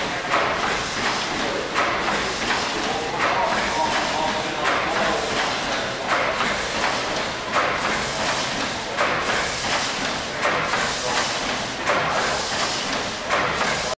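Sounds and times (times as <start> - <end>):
steam engine hissing and surging: 0.0 - 14.0.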